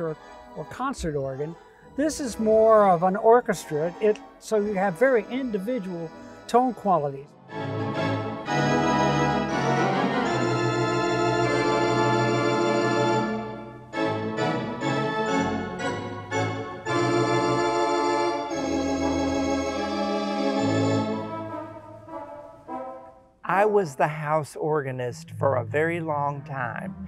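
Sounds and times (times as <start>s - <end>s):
theatre pipe organ chords: 0.0s - 24.0s.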